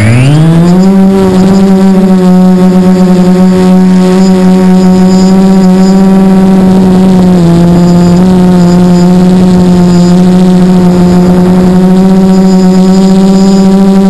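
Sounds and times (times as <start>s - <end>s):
drone motors humming: 0.0s - 14.0s.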